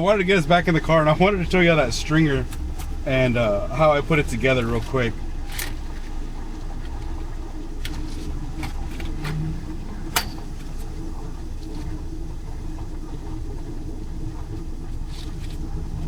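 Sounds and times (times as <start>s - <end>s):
car idling: 0.0s - 16.0s.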